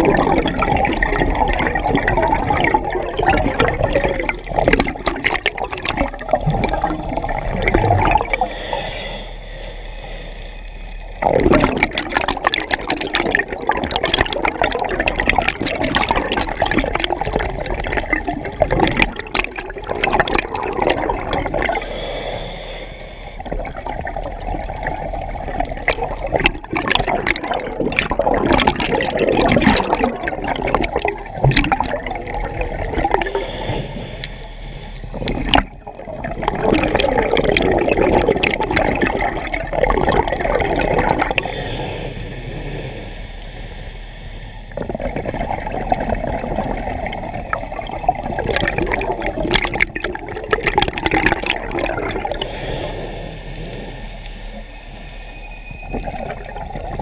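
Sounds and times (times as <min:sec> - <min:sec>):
regulator exhaust bubbles gurgling: 0:00.0 - 0:08.7, 0:11.1 - 0:22.1, 0:23.4 - 0:34.3, 0:35.0 - 0:57.0.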